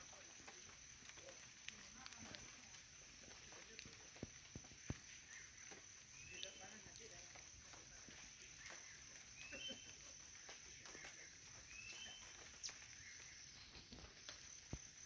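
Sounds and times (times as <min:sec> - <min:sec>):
faint clicks: 0:00.2 - 0:15.0.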